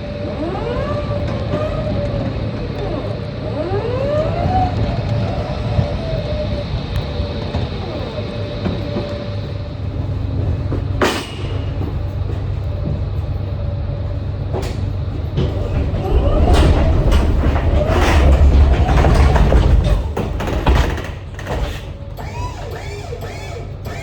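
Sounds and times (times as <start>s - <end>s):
forklift engine rumble: 0.0s - 24.0s
rattling clatter: 0.1s - 23.4s.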